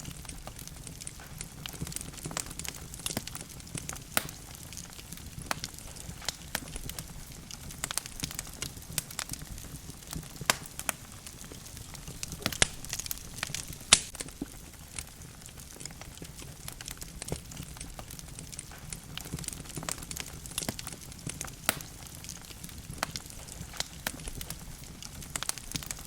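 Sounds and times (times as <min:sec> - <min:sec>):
logs crackling in fireplace: 0:00.0 - 0:26.0
low rumble of flames: 0:00.0 - 0:26.0.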